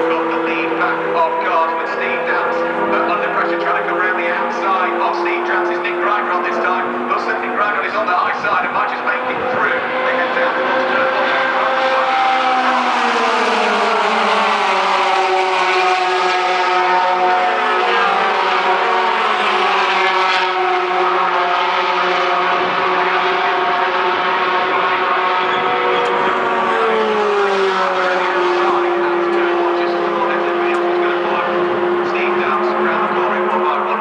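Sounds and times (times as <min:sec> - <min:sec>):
racing truck engines: 0:00.0 - 0:34.0.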